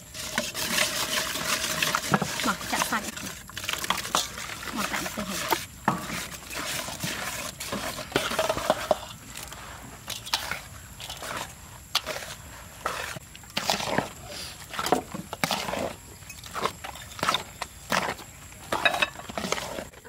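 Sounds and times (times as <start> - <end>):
whisk scraping in metal bowl: 0.0 - 9.5, 10.1 - 19.9.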